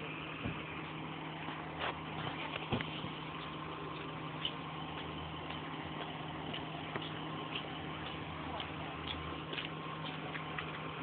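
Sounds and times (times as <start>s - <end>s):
limousine engine idling: 0.0s - 11.0s.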